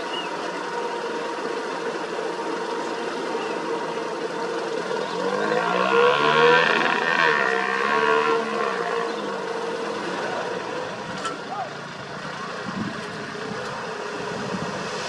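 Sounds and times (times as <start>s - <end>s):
road-paving machinery engine hum: 0.0s - 15.0s
passing vehicle engine: 0.7s - 15.0s.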